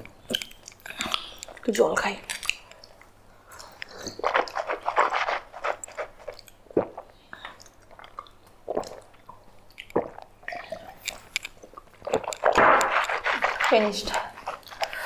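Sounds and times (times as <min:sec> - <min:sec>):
wet mouth clicks eating: 0:00.3 - 0:13.7.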